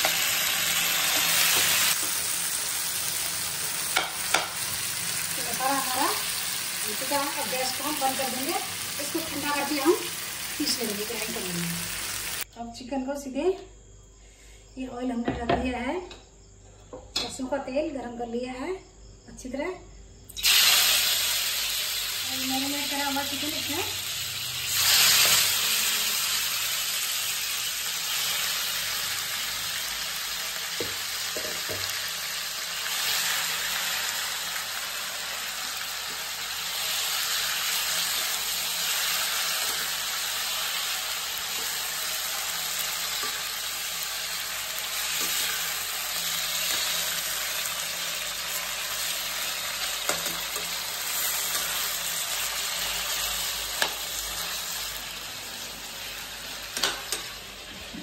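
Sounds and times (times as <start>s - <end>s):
chicken sizzling in oil: 0.0s - 12.5s, 20.4s - 58.0s.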